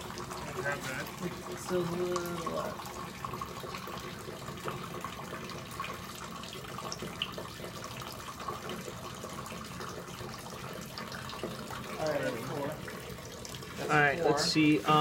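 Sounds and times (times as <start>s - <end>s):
water drips and splashes: 0.0s - 15.0s
water trickling: 0.0s - 15.0s.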